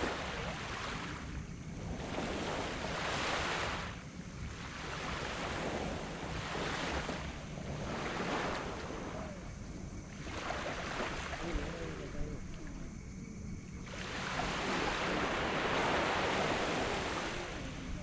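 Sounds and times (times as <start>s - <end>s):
waves breaking on beach: 0.0s - 12.8s, 13.8s - 18.0s
low rumble of surf: 0.0s - 18.0s.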